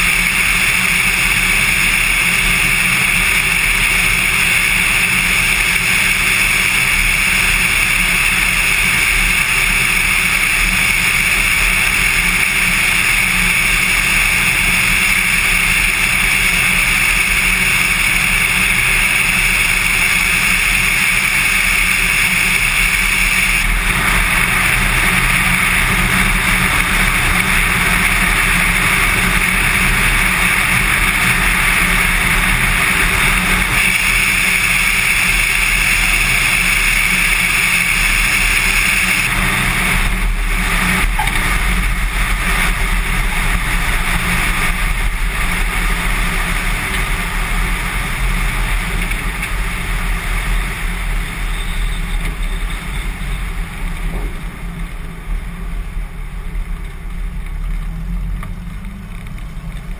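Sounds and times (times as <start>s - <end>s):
rushing air: 0.0s - 51.4s
plane engine and propeller running: 0.0s - 59.9s.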